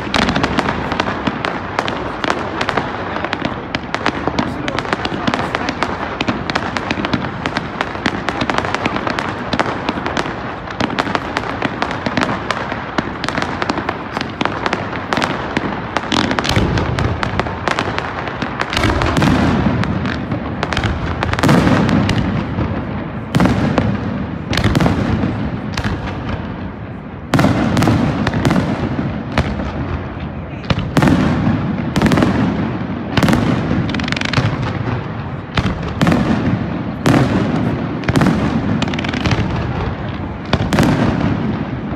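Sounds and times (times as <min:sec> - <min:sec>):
fireworks crackling and popping: 0:00.0 - 0:41.9.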